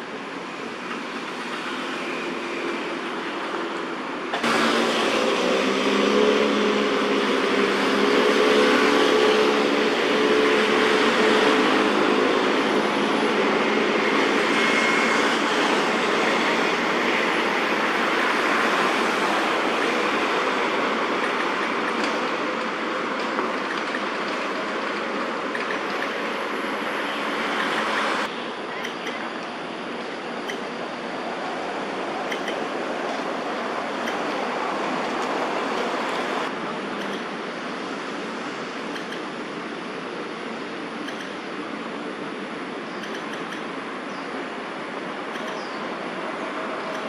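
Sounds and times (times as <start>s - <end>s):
road traffic noise: 0.0s - 47.0s.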